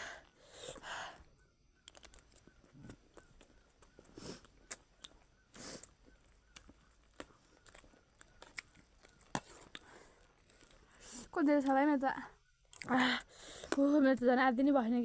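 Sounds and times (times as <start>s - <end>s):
quiet eating sounds: 0.0s - 14.7s.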